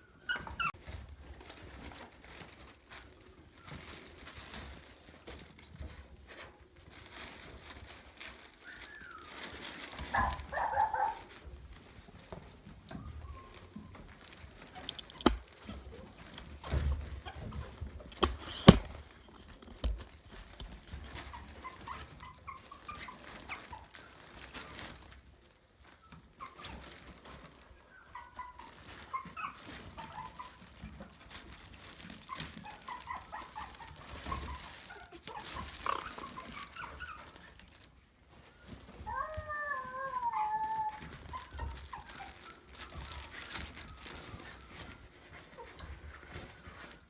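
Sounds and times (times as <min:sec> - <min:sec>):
puppies squeaking and whimpering: 0:00.0 - 0:00.8, 0:08.1 - 0:25.0, 0:25.8 - 0:47.0.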